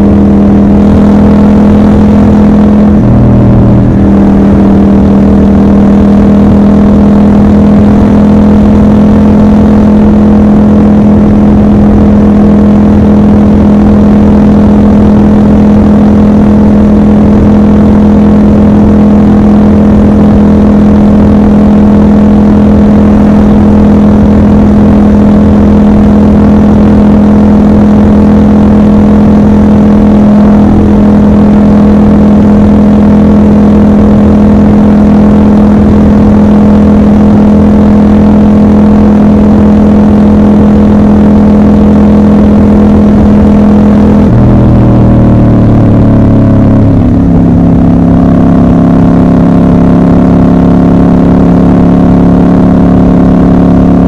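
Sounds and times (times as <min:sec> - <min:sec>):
low rush: 0:00.0 - 0:48.1
motorcycle engine cruising: 0:00.0 - 0:54.0.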